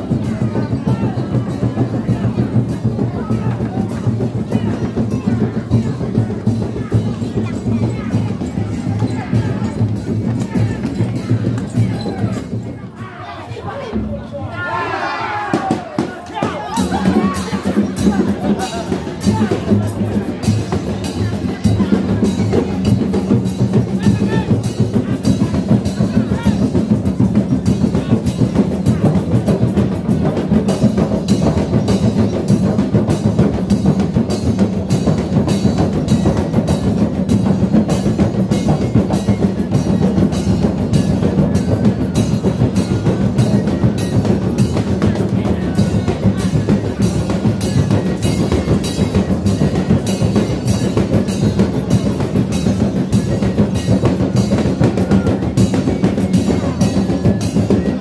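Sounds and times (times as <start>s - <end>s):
frame drums steady beat: 0.0s - 58.0s.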